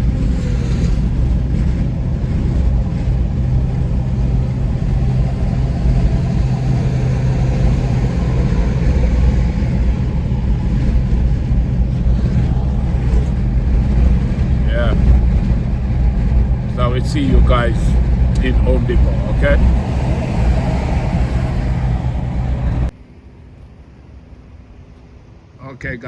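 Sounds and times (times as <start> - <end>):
engine and tyre drone in car: 0.0 - 23.0.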